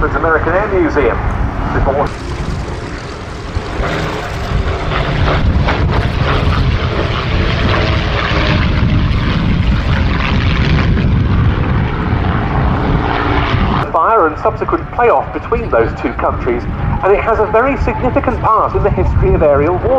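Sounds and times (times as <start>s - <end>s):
propeller aircraft engine flying past: 0.0s - 19.9s.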